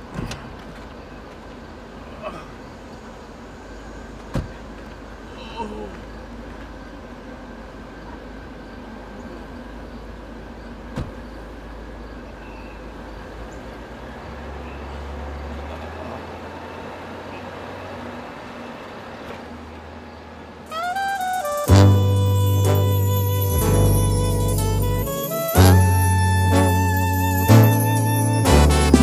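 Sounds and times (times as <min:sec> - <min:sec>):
outdoor hiss: 0:00.0 - 0:15.3, 0:16.9 - 0:29.0.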